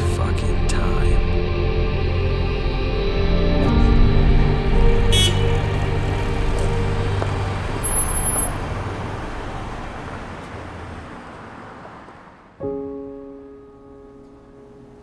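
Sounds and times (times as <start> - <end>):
rumble of car traffic: 0.0 - 15.0.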